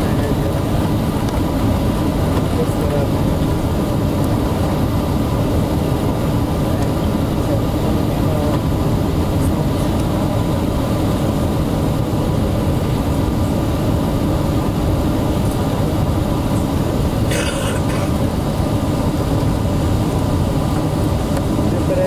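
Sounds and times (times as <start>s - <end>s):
aircraft cabin low rumble: 0.0s - 22.0s.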